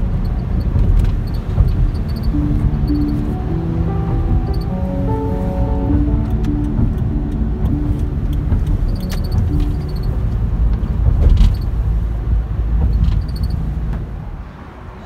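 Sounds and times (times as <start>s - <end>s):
background music: 0.0s - 12.2s
car road and engine rumble: 0.0s - 15.0s.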